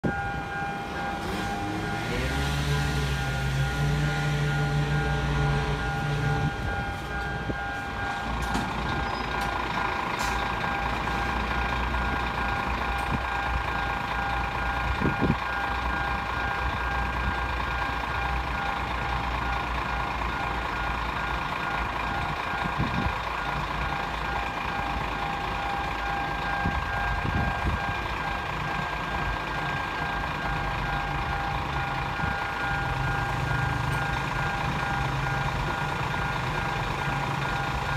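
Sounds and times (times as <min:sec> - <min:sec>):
level crossing alarm tones: 0:00.0 - 0:37.9
vehicle engine idling: 0:00.0 - 0:37.9.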